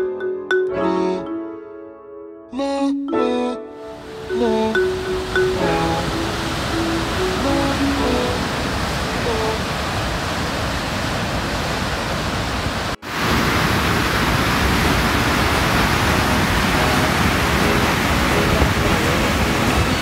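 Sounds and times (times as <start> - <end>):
water rushing over rocks: 4.0 - 20.0.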